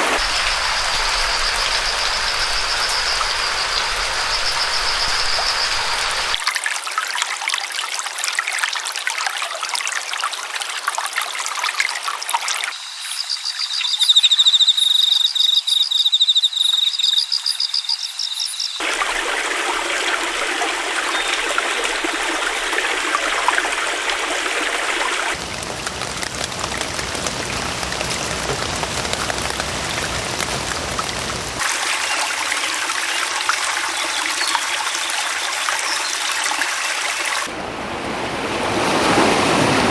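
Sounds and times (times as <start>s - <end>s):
stream water trickling: 0.0s - 37.5s.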